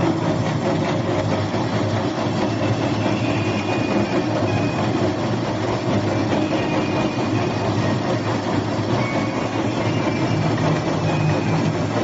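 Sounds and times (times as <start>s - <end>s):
hydraulic press machine drone: 0.0s - 12.0s.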